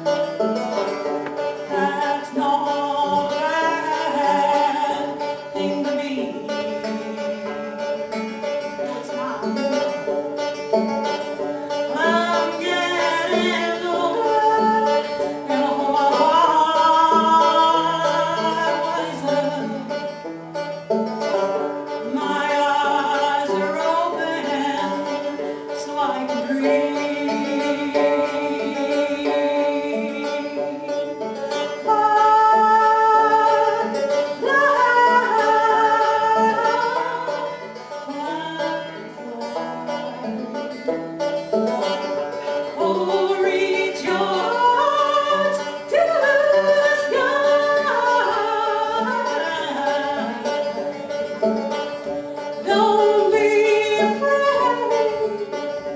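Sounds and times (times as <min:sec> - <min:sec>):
picked banjo: 0:00.0 - 0:55.9
woman singing folk song: 0:00.0 - 0:55.9.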